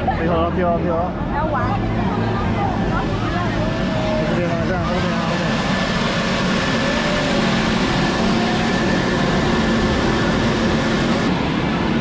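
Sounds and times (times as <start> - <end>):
faint crowd voices: 0.0 - 12.0
foam snow machines whirring: 0.0 - 12.0
low hum: 0.0 - 12.0.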